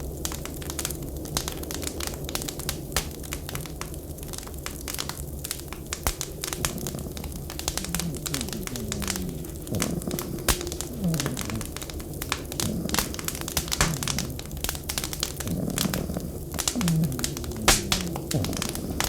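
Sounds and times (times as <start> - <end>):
wood fire crackling and popping: 0.1 - 19.0.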